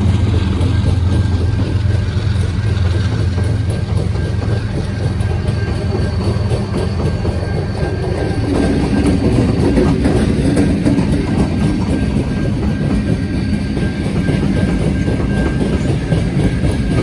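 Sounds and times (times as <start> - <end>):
diesel locomotive engines droning: 0.0 - 17.0
wheels rumbling on rails: 0.0 - 17.0.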